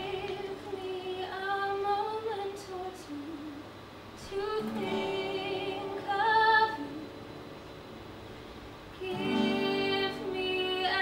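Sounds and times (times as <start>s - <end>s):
women singing: 0.0s - 7.2s, 9.0s - 11.0s
acoustic guitar: 0.0s - 11.0s.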